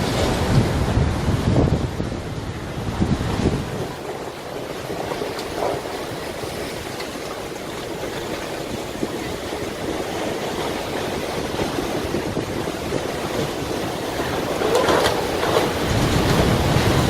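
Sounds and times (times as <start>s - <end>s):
surf and churning waves: 0.0s - 17.0s.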